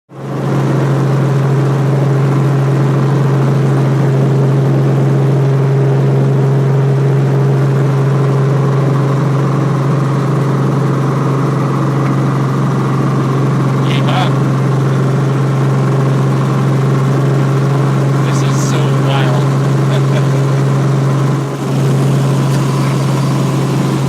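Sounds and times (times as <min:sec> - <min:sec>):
helicopter engine and rotors drone: 0:00.1 - 0:24.0.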